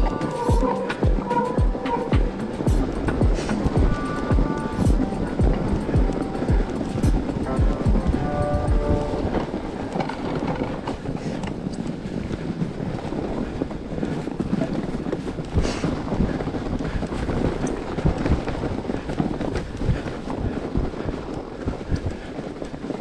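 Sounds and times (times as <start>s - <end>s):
tyres running through snow: 0.0s - 23.0s
wind noise on microphone: 0.0s - 23.0s.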